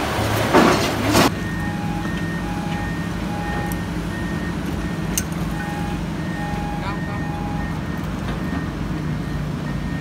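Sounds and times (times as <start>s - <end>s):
heavy construction machinery running: 0.0s - 10.0s
two-tone warning alarm beeping: 1.3s - 10.0s.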